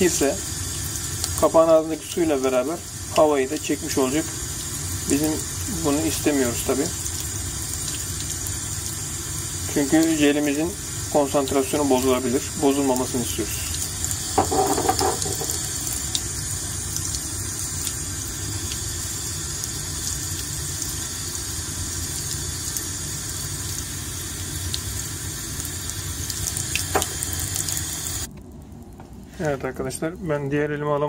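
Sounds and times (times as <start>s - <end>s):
tap water running into sink: 0.0s - 28.3s.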